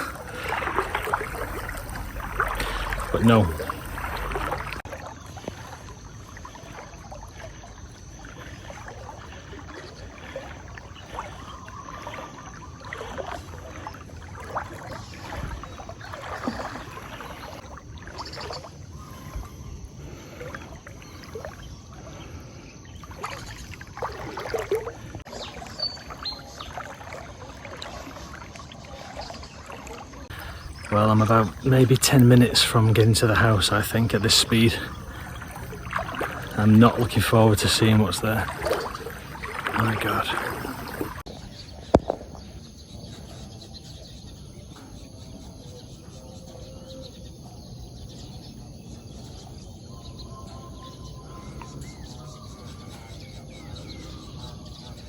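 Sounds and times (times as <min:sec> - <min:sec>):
water sloshing around legs: 0:00.0 - 0:48.3.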